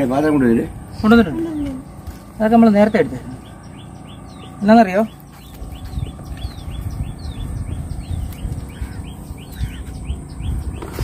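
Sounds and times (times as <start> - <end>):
birds chirping: 0.0 - 11.0
low rumble: 0.0 - 11.0.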